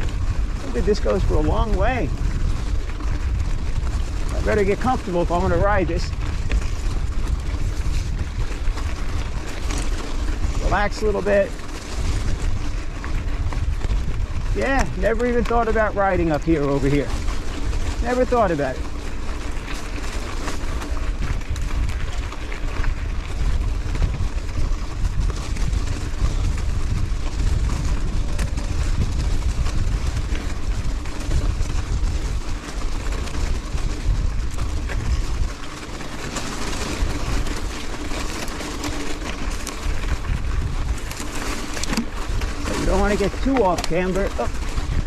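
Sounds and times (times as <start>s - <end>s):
bike rolling over rocks and gravel: 0.0s - 45.0s
wind buffeting microphone: 0.0s - 45.0s.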